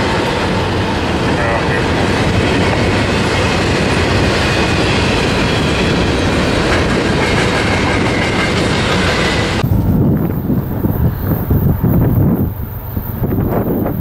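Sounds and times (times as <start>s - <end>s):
clickety-clack over rail joints: 0.0s - 14.0s
steel wheels rumbling on rail: 0.0s - 14.0s.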